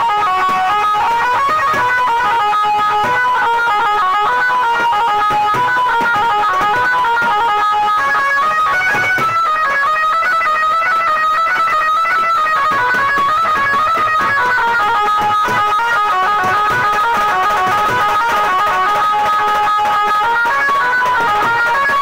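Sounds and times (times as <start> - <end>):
amplified banjo plucked melody: 0.0 - 22.0.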